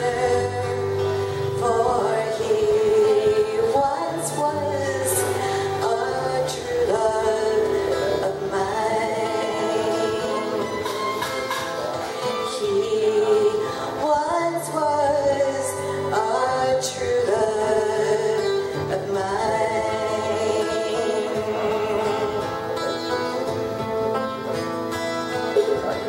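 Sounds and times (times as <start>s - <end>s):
woman singing: 0.0s - 11.2s, 12.2s - 22.6s
acoustic guitar strumming: 0.0s - 26.0s.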